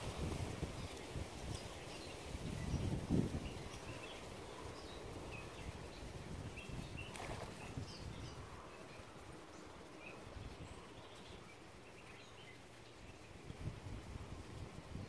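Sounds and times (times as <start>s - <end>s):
wind rumble on microphone: 0.0s - 15.0s
faint bird chirps: 0.8s - 13.6s.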